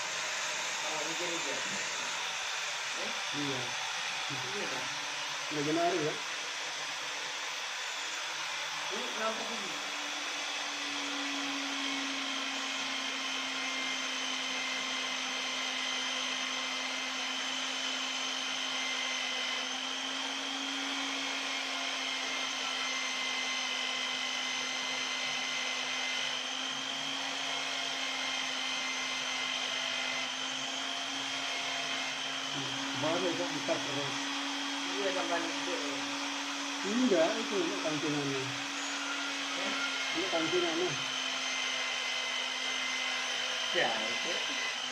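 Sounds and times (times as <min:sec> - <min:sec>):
small electric motor whirring: 0:00.0 - 0:44.9.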